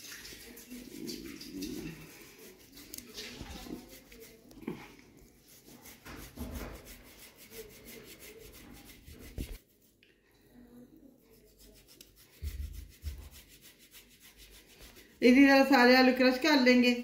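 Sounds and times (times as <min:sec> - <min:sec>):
potato grating rasps: 0:00.2 - 0:09.9, 0:11.3 - 0:15.2.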